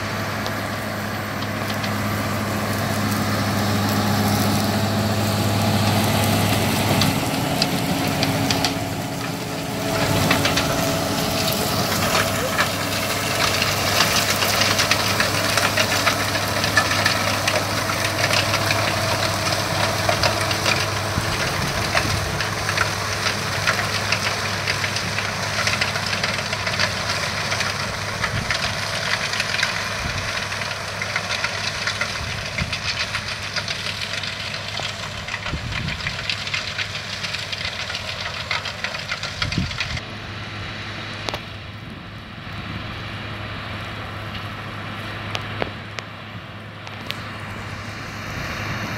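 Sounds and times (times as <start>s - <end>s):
crackling clatter of flung manure: 0.0s - 48.9s
tractor engine under load: 0.0s - 48.9s.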